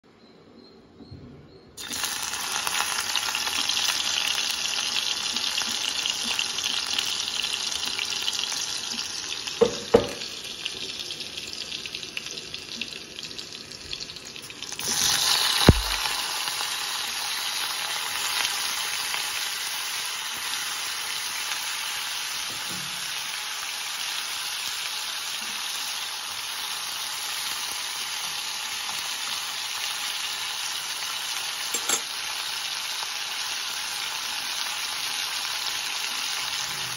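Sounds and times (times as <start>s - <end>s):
hot oil sizzling: 1.8s - 36.9s.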